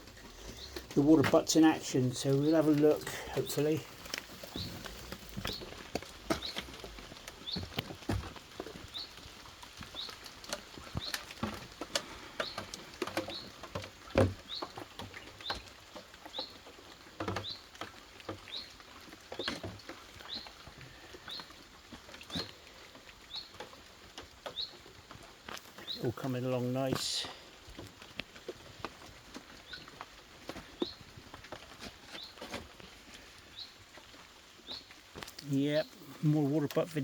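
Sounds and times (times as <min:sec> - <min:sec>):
rain dripping: 0:00.0 - 0:37.0.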